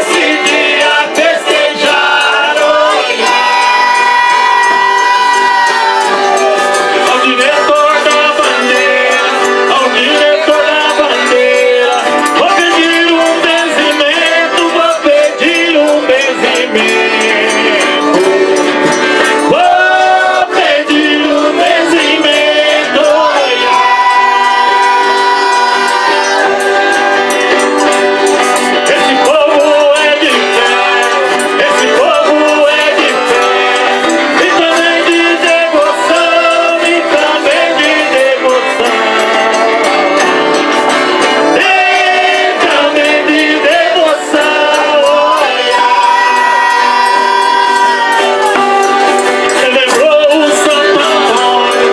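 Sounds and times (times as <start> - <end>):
button accordion playing folk music: 0.0 - 51.9
tambourine shaking: 0.0 - 51.9
voices singing: 0.0 - 51.9.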